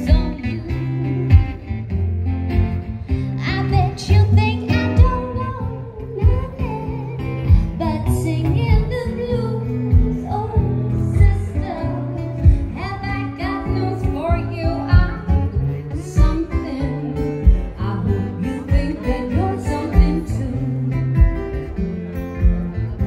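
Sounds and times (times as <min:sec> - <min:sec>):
woman singing: 0:00.0 - 0:02.0, 0:03.1 - 0:21.8
acoustic guitars strummed: 0:00.0 - 0:23.0.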